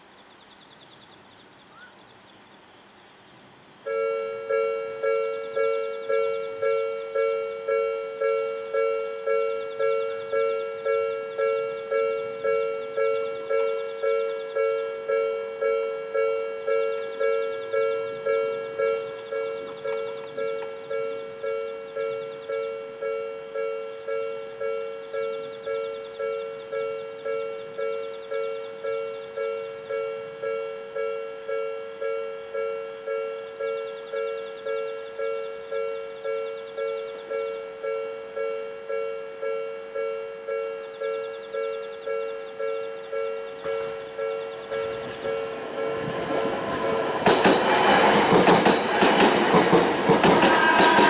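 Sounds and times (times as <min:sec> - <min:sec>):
level-crossing warning bell: 0:03.8 - 0:51.0.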